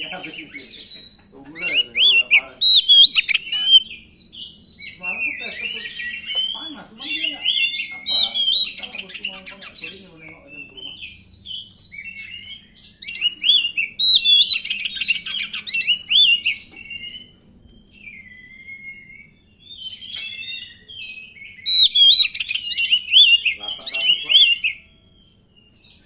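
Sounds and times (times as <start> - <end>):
bird singing whistles and chatter: 0.0 - 26.0.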